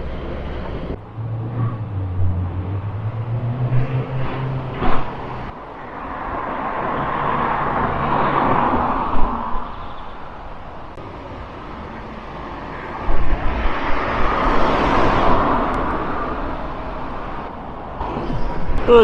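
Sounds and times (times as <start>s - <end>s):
vehicles passing on road: 0.0s - 19.0s.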